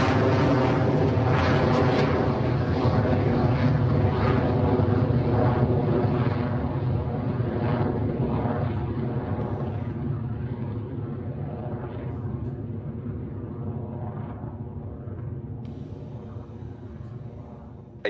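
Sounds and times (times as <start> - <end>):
rocket engine roar: 0.0 - 18.0.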